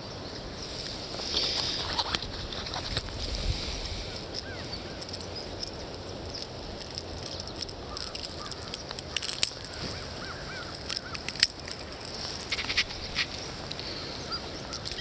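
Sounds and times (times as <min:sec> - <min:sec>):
river water running: 0:00.4 - 0:15.0.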